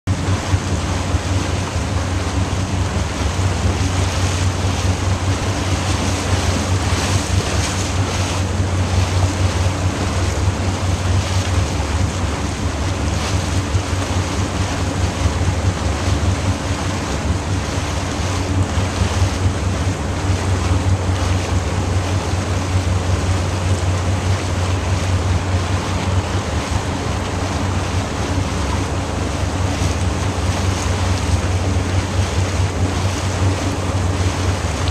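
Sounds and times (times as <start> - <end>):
small boat engine drone: 0.1 - 34.9.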